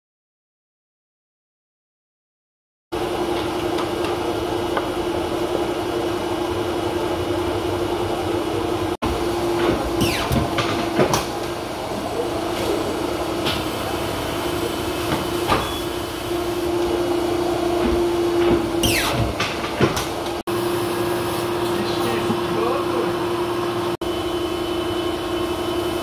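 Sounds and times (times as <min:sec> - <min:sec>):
paper cutter humming: 0:03.0 - 0:26.0.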